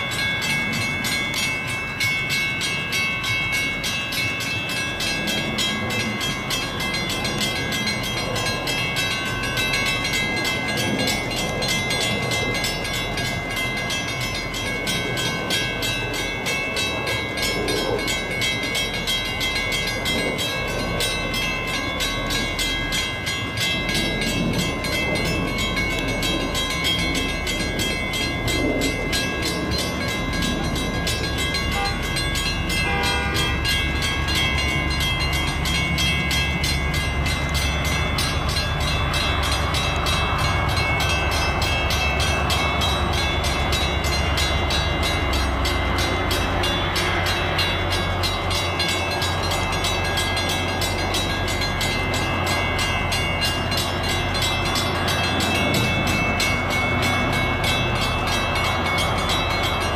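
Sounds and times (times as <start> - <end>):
crossing warning bells ringing: 0.0 - 59.9
diesel locomotive rumble: 0.0 - 59.9.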